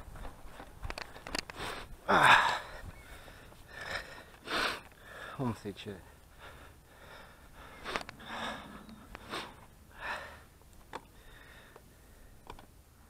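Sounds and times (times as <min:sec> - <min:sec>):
cyclist puffing breaths: 0:00.0 - 0:05.4, 0:06.0 - 0:12.7.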